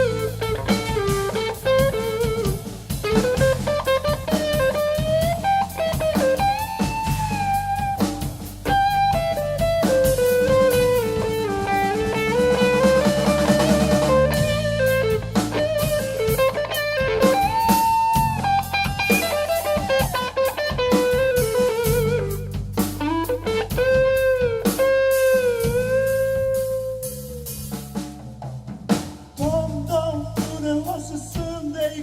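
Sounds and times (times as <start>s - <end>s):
electric guitar solo: 0.0s - 27.3s
bass and drums: 0.0s - 32.0s.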